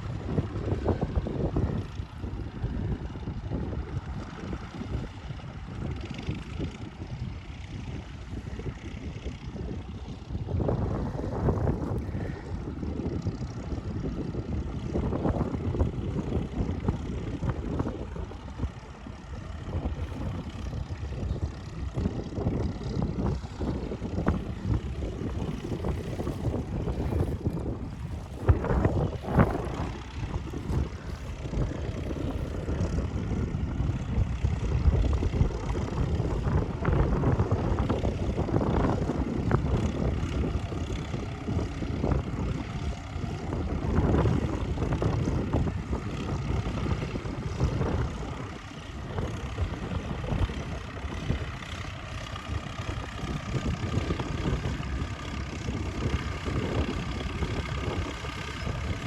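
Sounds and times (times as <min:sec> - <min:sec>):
machinery engine rumbling: 0:07.6 - 0:59.0.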